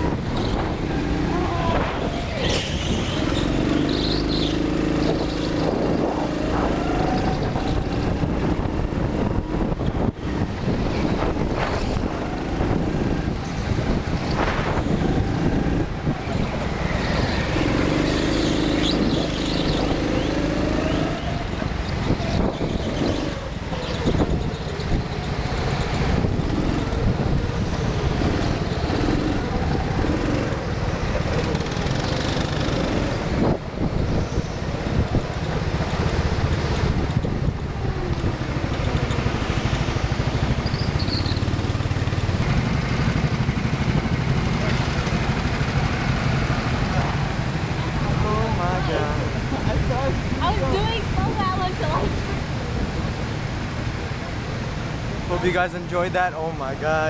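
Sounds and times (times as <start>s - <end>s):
go-kart engine drone: 0.0s - 57.0s.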